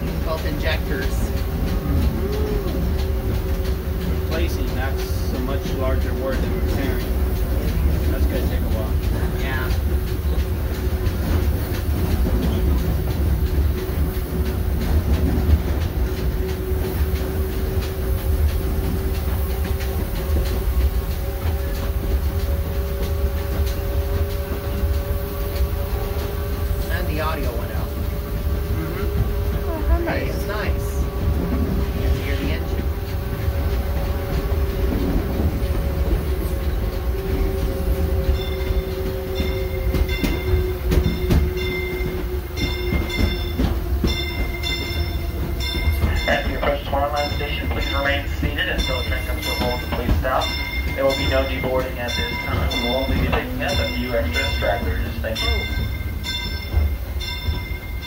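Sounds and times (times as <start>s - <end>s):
train rumbling: 0.0s - 58.0s
wheels clicking on rails: 0.0s - 58.0s.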